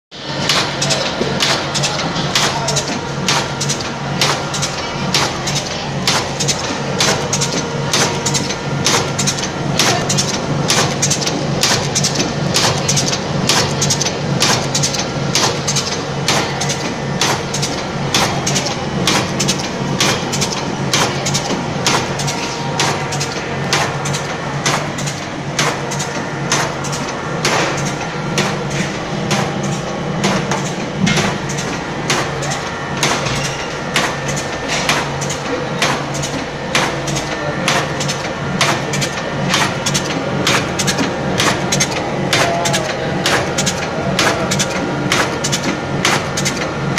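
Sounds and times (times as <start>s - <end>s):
motor hum: 0.1s - 46.9s
pasta machine clacking: 0.3s - 46.9s.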